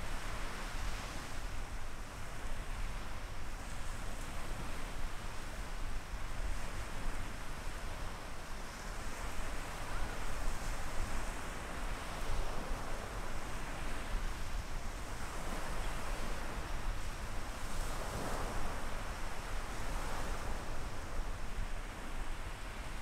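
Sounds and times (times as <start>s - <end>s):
small waves washing on sand: 0.0s - 23.0s.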